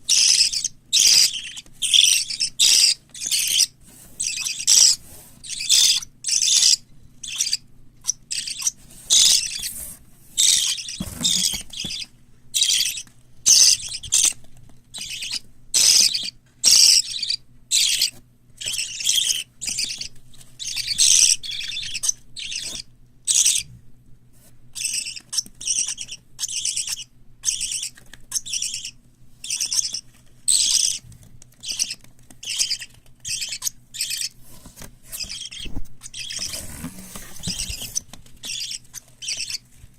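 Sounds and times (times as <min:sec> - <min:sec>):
parrot chicks calling: 0:00.0 - 0:23.7, 0:24.7 - 0:39.7.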